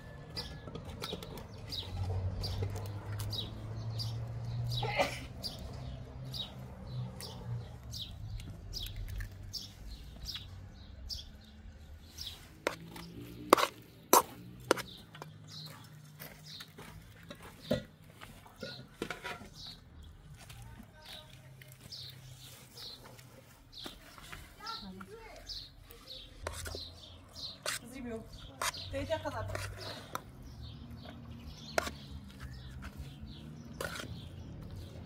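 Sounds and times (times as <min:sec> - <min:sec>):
small birds chirping: 0:00.4 - 0:35.0.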